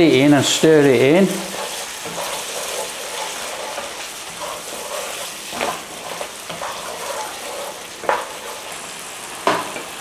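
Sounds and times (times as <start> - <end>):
sauce sizzling in a frying pan: 0.0 - 10.0
spatula scraping a pan: 0.0 - 10.0.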